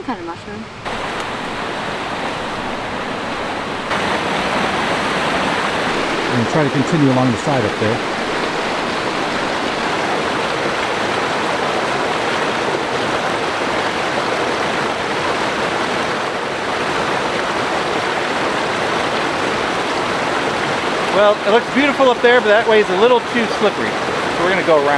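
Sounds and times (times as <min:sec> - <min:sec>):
mountain creek rushing: 0:00.0 - 0:24.9.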